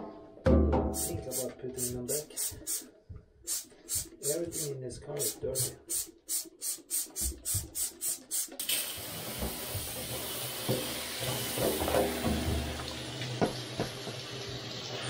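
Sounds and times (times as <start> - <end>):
shower hose spraying water: 1.0 - 2.9, 3.5 - 15.0.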